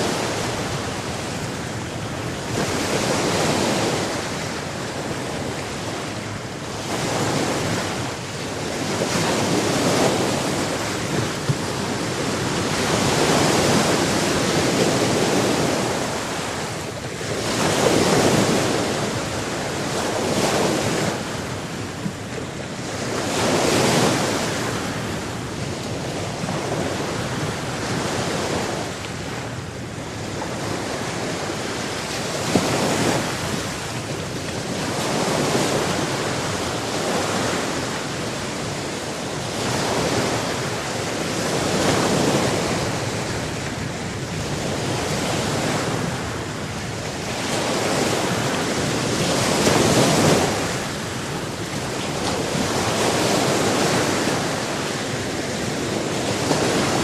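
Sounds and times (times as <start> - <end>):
ocean waves breaking: 0.0 - 57.0
wind: 0.0 - 57.0.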